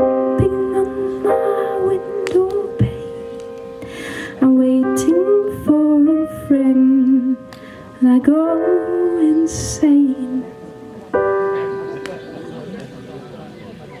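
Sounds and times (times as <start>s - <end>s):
piano accompaniment: 0.0s - 14.0s.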